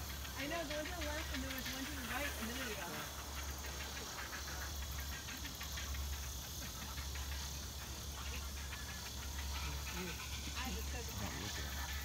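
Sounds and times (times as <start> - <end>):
constant low hum: 0.0 - 12.0
insects chirring: 0.0 - 12.0.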